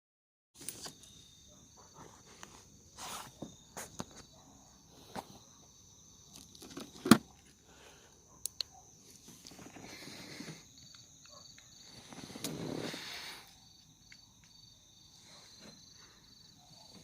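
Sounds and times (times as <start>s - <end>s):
insects chirring: 0.6s - 17.0s.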